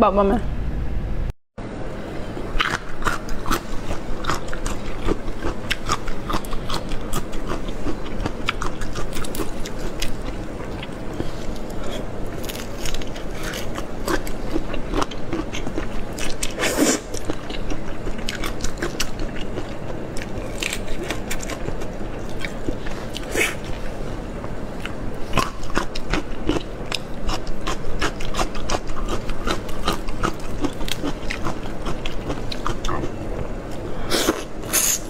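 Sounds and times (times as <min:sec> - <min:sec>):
chewing and wet mouth sounds: 0:02.4 - 0:35.0.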